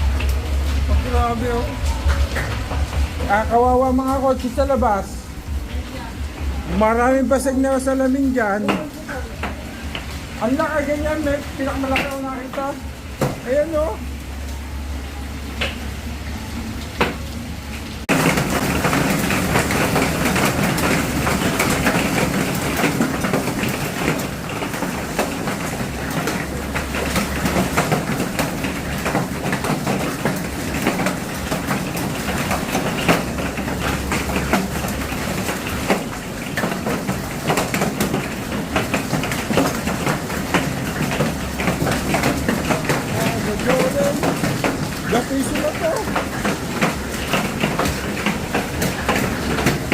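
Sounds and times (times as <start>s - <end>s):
heavy hail pelting down: 0.0s - 49.9s.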